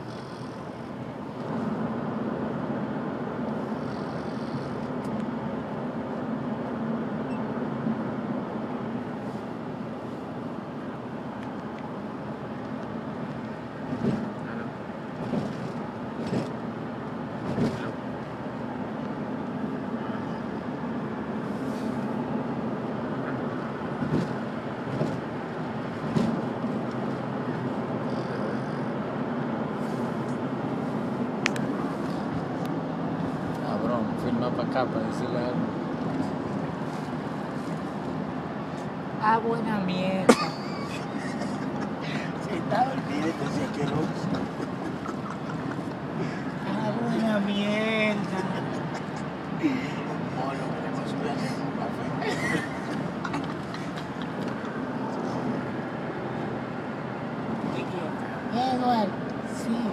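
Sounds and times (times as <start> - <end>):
vehicle running low hum: 0.0 - 59.9.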